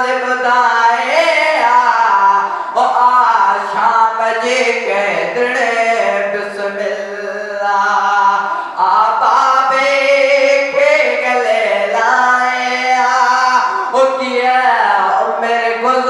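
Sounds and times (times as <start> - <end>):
man singing unaccompanied lament: 0.0 - 16.0.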